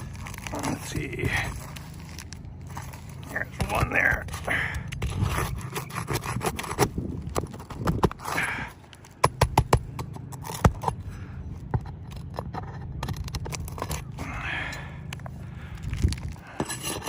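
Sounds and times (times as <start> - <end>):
hand tool tapping and scraping: 0.2 - 11.0, 11.6 - 17.0.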